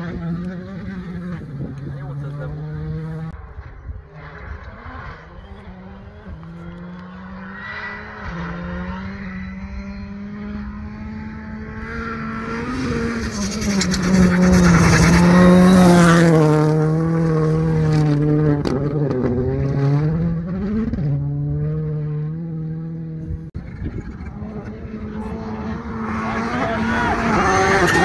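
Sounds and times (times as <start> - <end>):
rally car engine passing by: 0.0 - 28.0.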